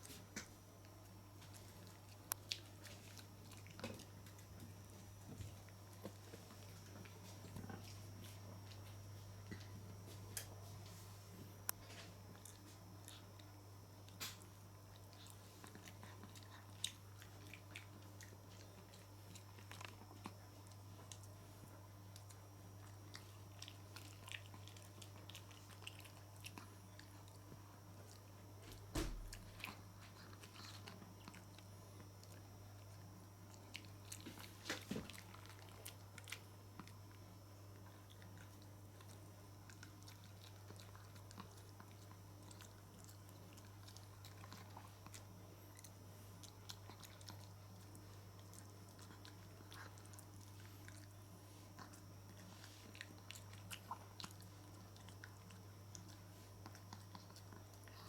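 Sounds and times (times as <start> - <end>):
steady low hum: 0.0 - 58.0
pets chewing: 0.8 - 10.6, 11.8 - 58.0.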